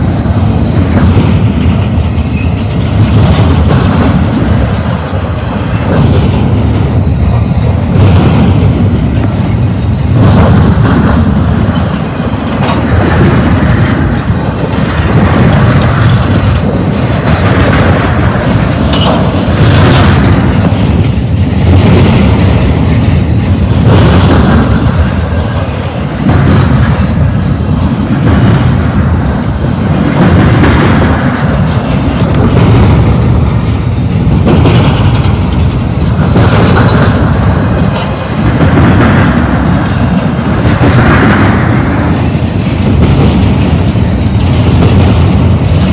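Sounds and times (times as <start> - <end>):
freight train wheels rumbling on rail: 0.0 - 45.9.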